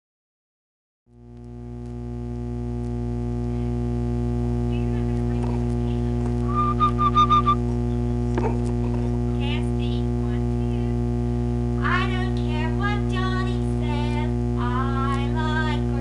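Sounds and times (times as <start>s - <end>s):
tape recording playback: 1.1s - 16.0s
loud mains hum: 1.2s - 16.0s.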